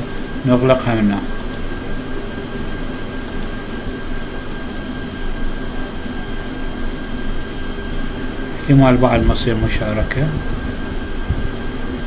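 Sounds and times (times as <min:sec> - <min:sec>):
faint high whine: 0:00.0 - 0:12.0
room hum and hiss: 0:00.0 - 0:12.0.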